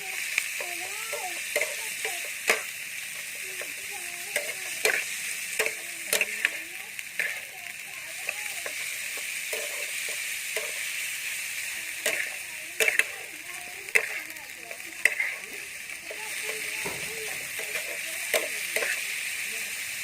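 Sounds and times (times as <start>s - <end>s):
food sizzling in a pan: 0.0s - 20.0s
utensil clicking against pan: 0.2s - 11.0s, 11.9s - 19.4s.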